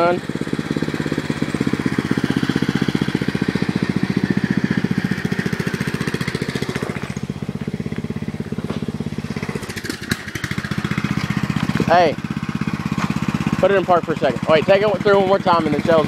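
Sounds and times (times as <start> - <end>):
riding lawn mower engine running: 0.0 - 16.0.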